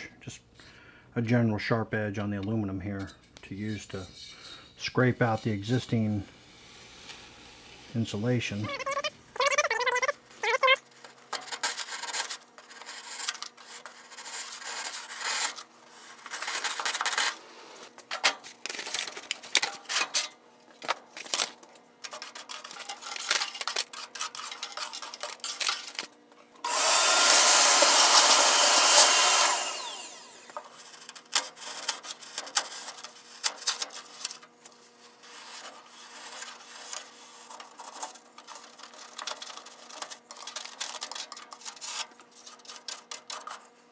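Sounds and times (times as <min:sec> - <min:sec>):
scraper rasping insulation: 0:03.7 - 0:18.0, 0:21.2 - 0:26.1, 0:26.7 - 0:43.8.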